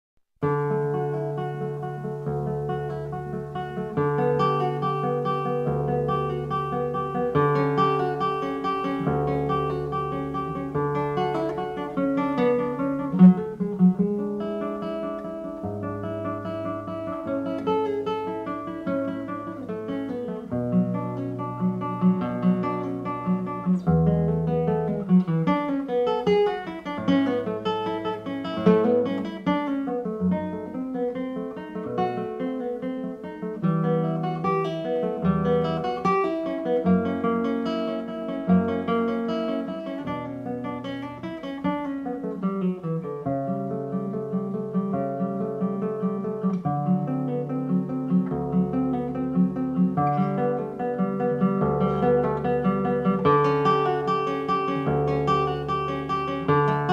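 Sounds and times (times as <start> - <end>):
acoustic guitar music: 0.4 - 56.9.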